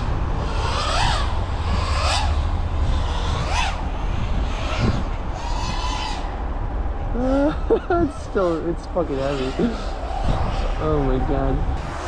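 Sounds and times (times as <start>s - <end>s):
drone motors buzzing: 0.0s - 6.5s, 7.2s - 12.0s
low rumble: 0.0s - 12.0s.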